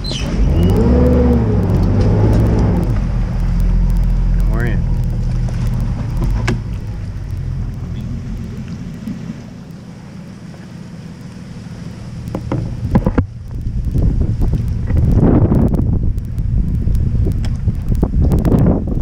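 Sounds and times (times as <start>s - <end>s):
outboard motor idling: 0.0s - 18.4s.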